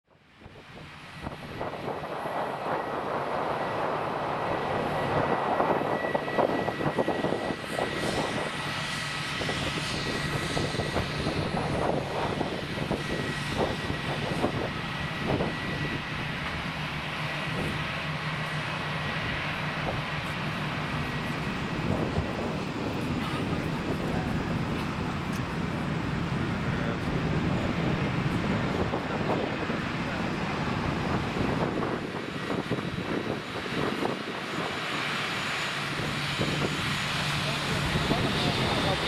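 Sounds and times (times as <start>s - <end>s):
jet engine whine: 0.1s - 39.0s.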